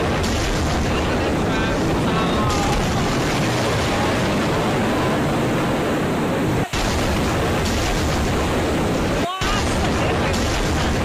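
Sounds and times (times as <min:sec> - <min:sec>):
torrential rain: 0:00.0 - 0:11.0
wind gusts buffeting microphone: 0:00.0 - 0:11.0.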